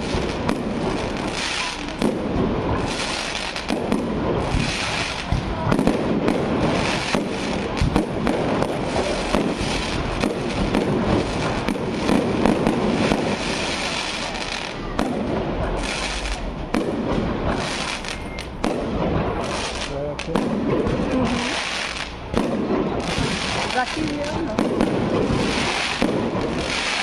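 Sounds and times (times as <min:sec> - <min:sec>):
continuous rumble: 0:00.0 - 0:27.0
fireworks bangs and crackles: 0:00.0 - 0:27.0.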